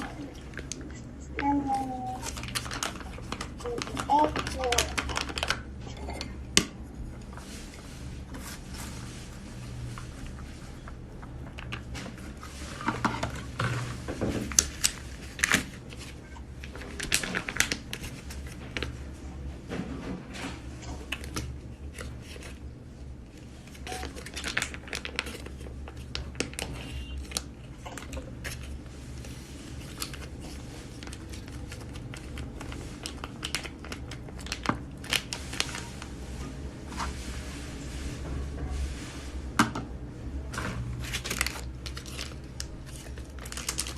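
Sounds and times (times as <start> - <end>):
packaging crinkling and rustling: 0.0 - 5.8, 7.2 - 19.0, 20.8 - 39.5, 40.4 - 43.9.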